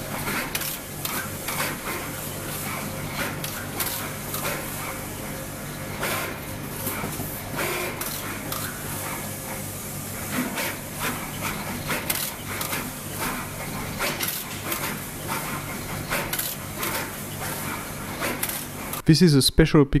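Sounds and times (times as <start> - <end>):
machine clicks and clacks: 0.0 - 5.1, 5.8 - 9.6, 10.3 - 19.0
machine hum: 0.0 - 19.2.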